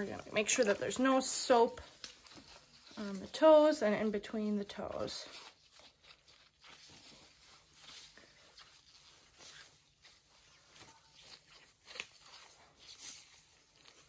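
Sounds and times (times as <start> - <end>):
washcloth wiping skin: 0.0 - 14.0.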